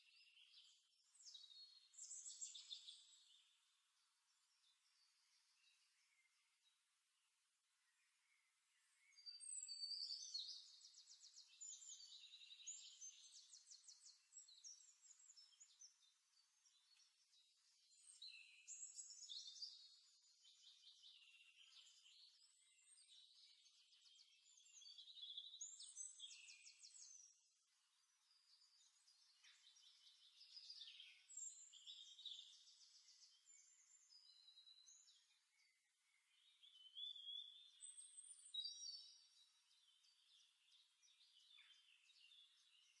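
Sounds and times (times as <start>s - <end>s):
faint high birdsong: 0.0s - 43.0s.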